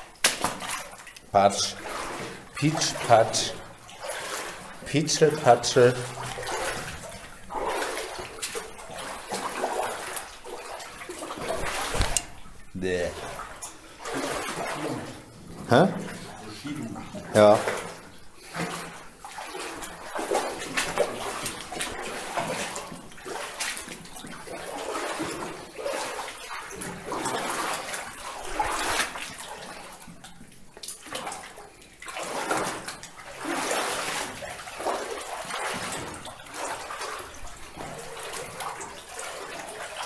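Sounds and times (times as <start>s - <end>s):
footsteps splashing through water: 0.0s - 40.0s.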